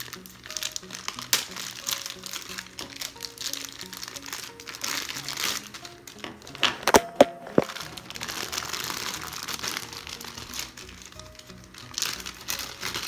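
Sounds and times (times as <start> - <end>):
plastic bag crinkling: 0.0 - 13.0
sharp crackling snaps: 0.0 - 13.0.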